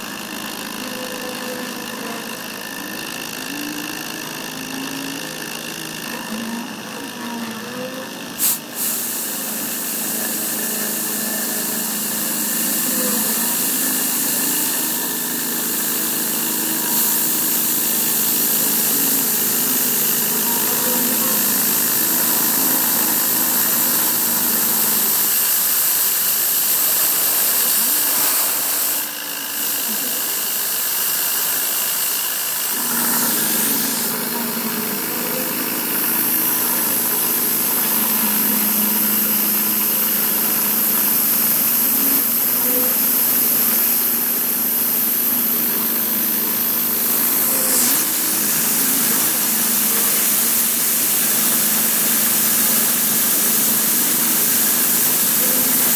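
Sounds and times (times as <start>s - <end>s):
engraving machine spindle whine: 0.0s - 55.9s.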